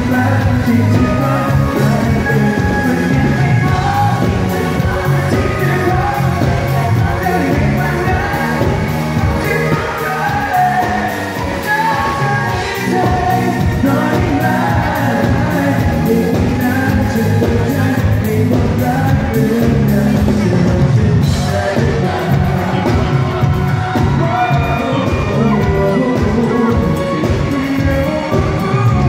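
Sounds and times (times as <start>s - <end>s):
live pop band: 0.0s - 29.0s
man singing: 0.0s - 29.0s.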